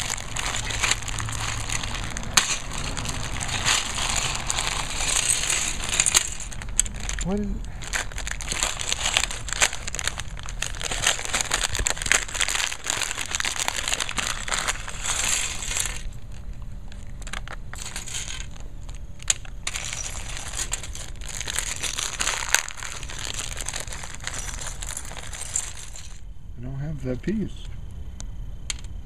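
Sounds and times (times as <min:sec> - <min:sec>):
plastic bags crinkling: 0:00.0 - 0:26.2.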